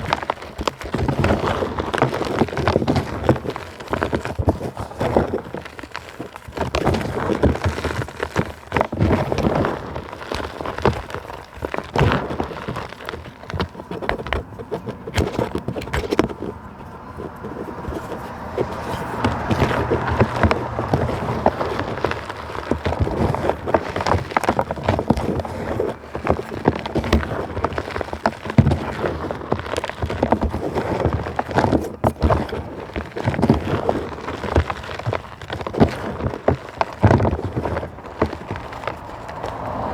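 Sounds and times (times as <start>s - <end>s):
dry plant material crunching: 0.0s - 39.9s.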